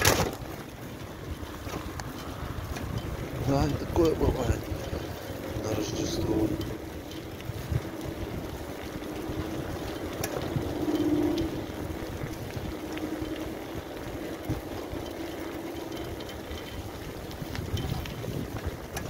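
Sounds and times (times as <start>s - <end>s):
wind on microphone: 0.0s - 15.2s, 16.1s - 19.0s
bicycle tyres rolling on paving: 0.0s - 19.0s
light ticks and rattles: 0.0s - 19.0s.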